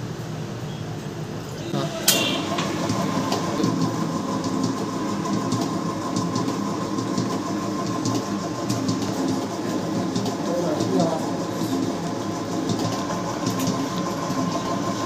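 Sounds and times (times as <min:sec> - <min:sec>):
stand mixer motor hum: 0:01.8 - 0:15.0.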